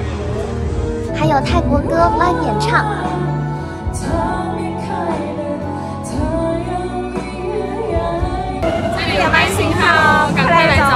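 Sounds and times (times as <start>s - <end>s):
backing music: 0.0s - 10.9s
woman singing into microphone: 2.0s - 10.9s.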